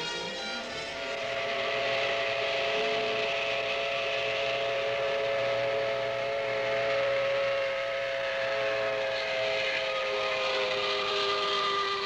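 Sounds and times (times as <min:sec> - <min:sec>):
steam locomotive chime whistle: 0:00.0 - 0:12.0.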